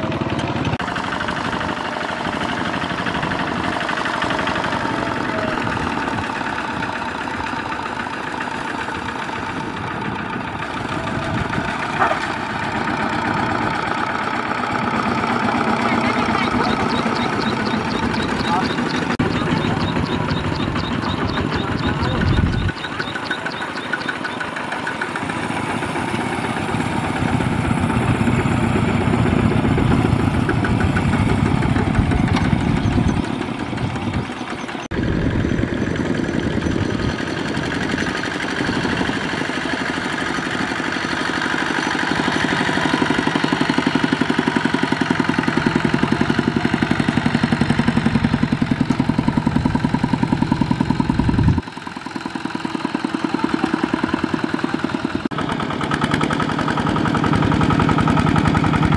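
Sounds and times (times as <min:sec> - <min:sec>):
diesel tractor engine chugging: 0:00.0 - 0:58.9.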